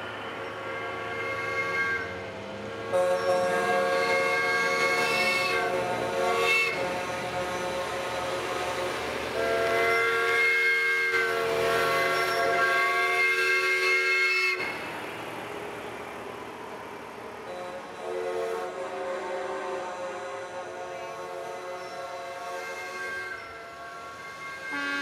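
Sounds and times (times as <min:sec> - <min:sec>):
truck air horns blowing: 0:00.6 - 0:02.2, 0:02.8 - 0:14.8, 0:17.5 - 0:25.0.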